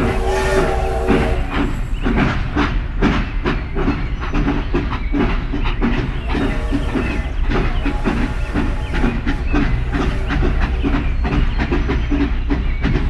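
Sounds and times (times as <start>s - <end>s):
train hiss: 0.0s - 13.0s
train wheels clattering on rails: 0.0s - 13.0s.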